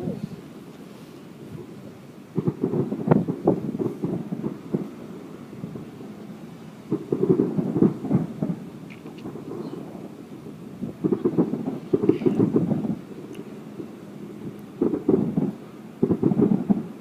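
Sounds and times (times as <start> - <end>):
fireworks exploding: 2.3 - 17.0.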